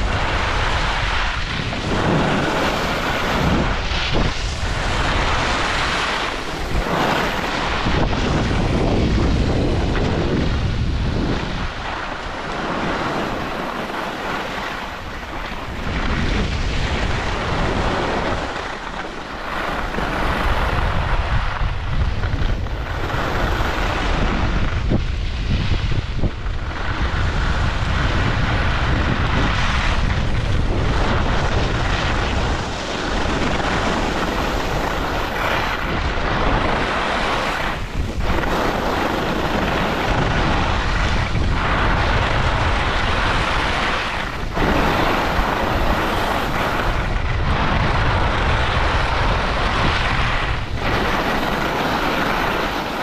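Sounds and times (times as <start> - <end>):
skis scraping on snow: 0.0 - 53.0
wind buffeting microphone: 0.0 - 53.0.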